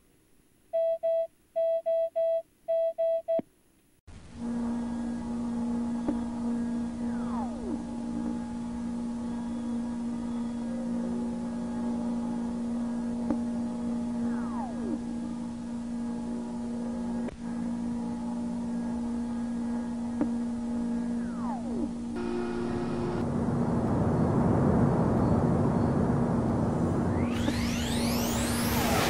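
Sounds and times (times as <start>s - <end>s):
electronic hum of held tones: 4.1s - 29.0s.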